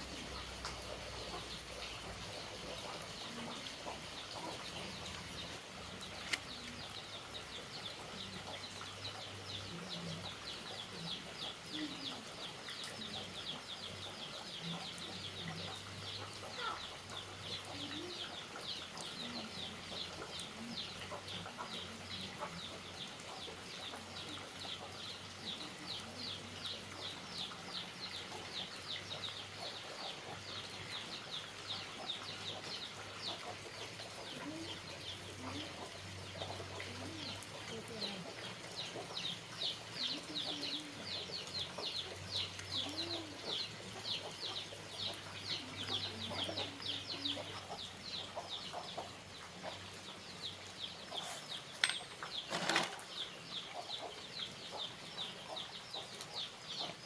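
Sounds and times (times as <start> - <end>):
chicks peeping rapidly: 6.4 - 51.7, 52.3 - 57.0.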